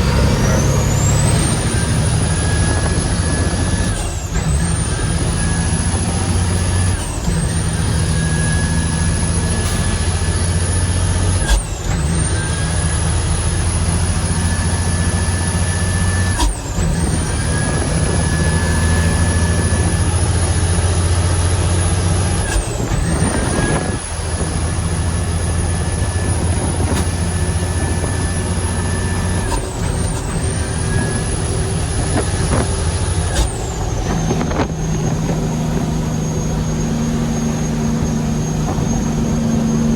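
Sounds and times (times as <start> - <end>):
diesel truck engine pulling hard: 0.0 - 39.9
high whine: 0.0 - 39.9.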